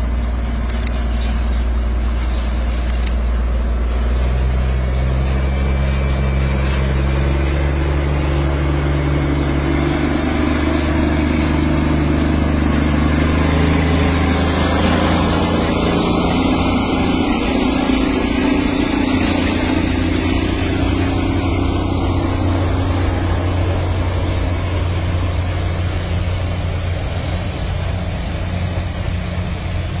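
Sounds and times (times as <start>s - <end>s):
passenger train running: 0.0s - 30.0s.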